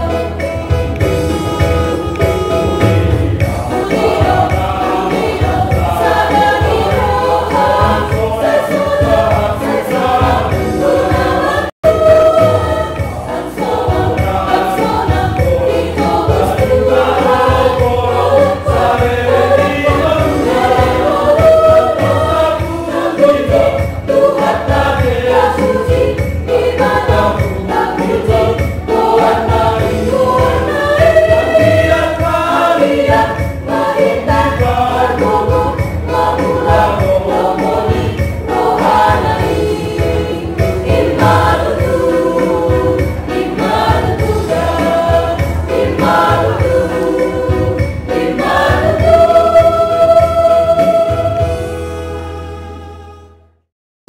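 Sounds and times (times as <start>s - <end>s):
church choir singing: 0.0s - 53.4s.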